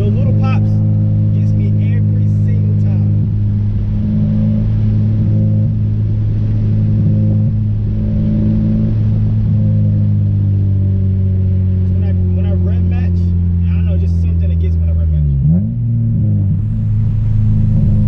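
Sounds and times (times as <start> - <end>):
car engine and exhaust droning: 0.0 - 18.0.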